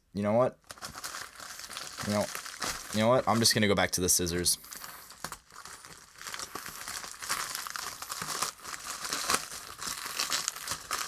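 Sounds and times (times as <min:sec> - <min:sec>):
plastic crinkling: 0:00.6 - 0:03.8, 0:04.6 - 0:11.0.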